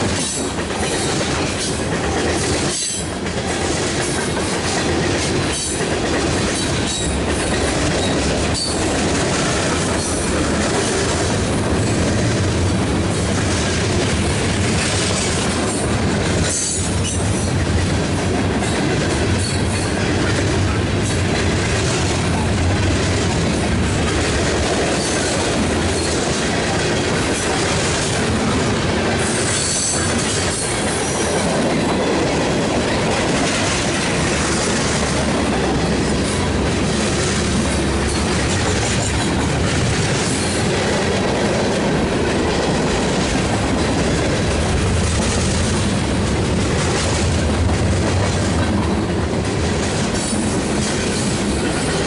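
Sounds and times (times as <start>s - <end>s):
freight train wheels on rails: 0.0s - 52.0s.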